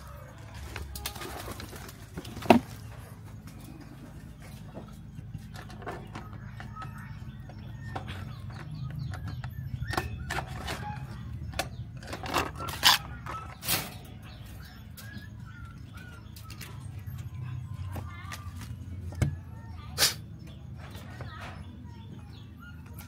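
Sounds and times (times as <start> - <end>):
wire cage rattling and clinking: 0.0 - 19.0.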